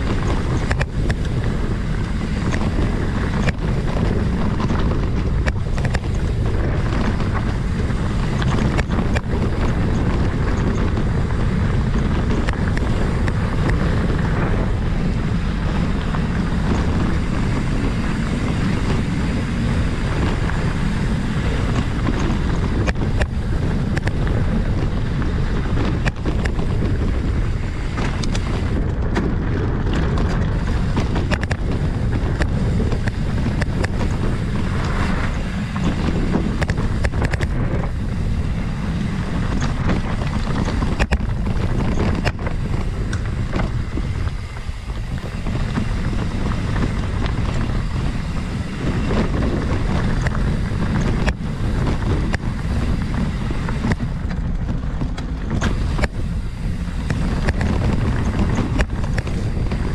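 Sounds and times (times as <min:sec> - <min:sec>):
bike clicks and rattles: 0:00.0 - 0:59.9
wind buffeting microphone: 0:00.0 - 0:59.9.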